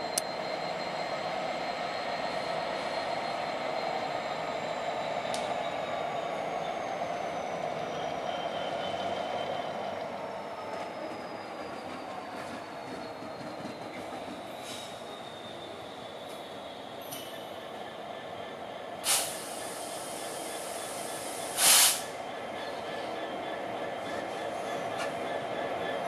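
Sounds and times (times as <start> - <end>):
diesel locomotive running: 0.0 - 26.0.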